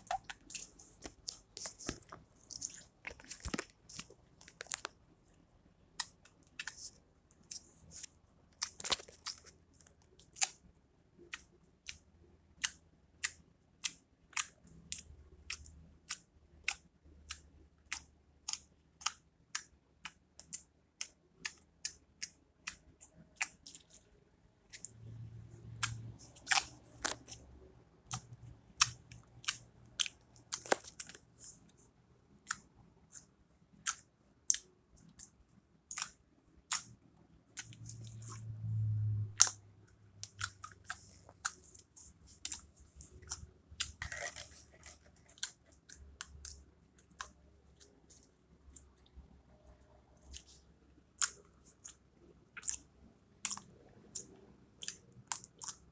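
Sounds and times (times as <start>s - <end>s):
faint low hum: 0.0s - 55.9s.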